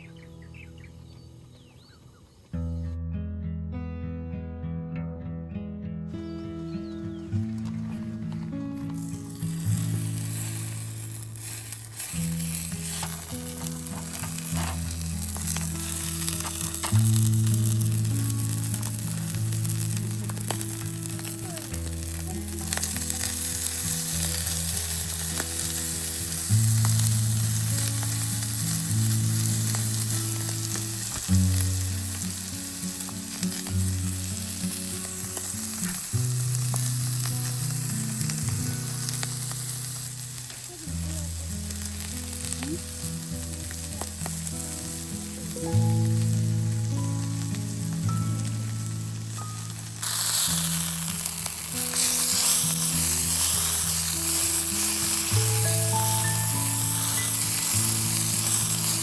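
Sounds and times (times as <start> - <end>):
background music with low notes: 2.6 - 59.0
food sizzling and popping: 6.7 - 59.0.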